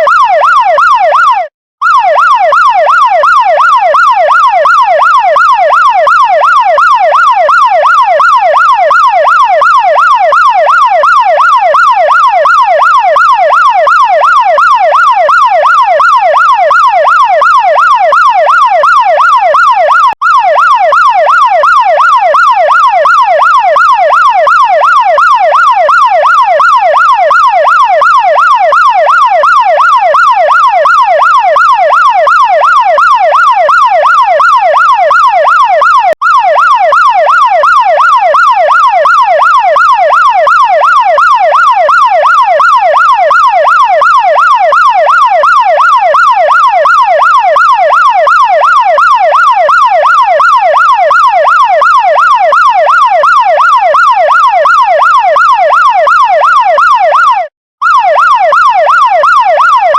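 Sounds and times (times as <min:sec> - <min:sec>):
fire truck siren yelping: 0:00.0 - 0:59.9.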